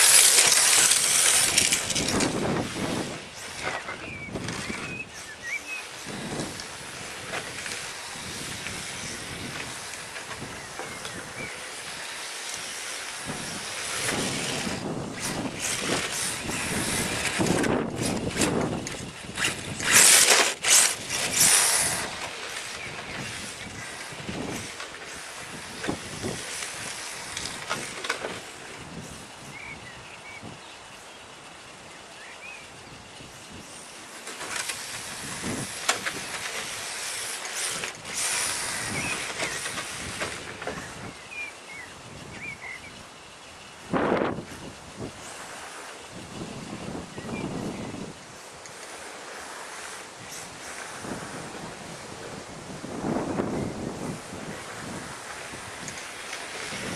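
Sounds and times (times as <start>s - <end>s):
tyres hissing on asphalt: 0.0s - 56.9s.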